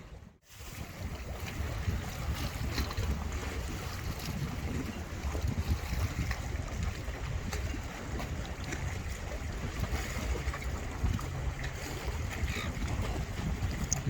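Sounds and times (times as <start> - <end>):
water wash: 0.0 - 14.0
wind noise on microphone: 0.0 - 14.0.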